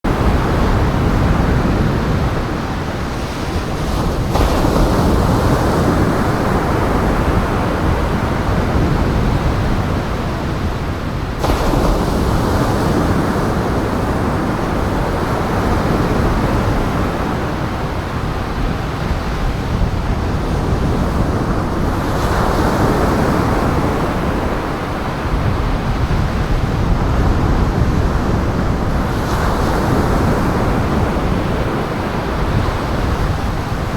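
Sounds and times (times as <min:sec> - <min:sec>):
strong wind: 0:00.0 - 0:33.9
breaking surf: 0:00.1 - 0:33.9.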